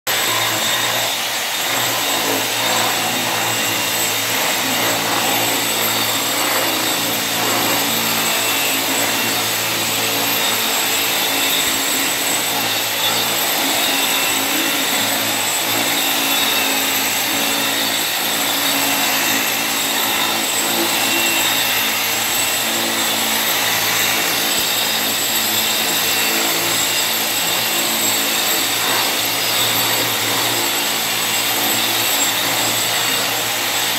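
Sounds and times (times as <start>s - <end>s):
angle grinder polishing stone: 0.1s - 33.9s.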